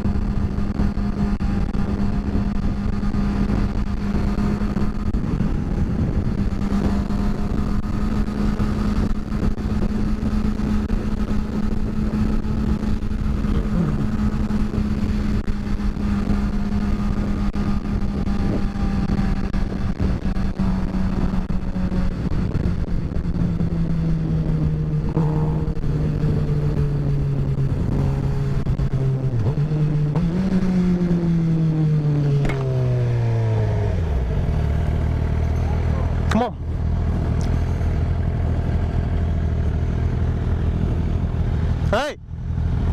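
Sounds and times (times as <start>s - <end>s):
motorcycle engine: 0.0s - 42.9s
wind and road noise: 0.0s - 42.9s.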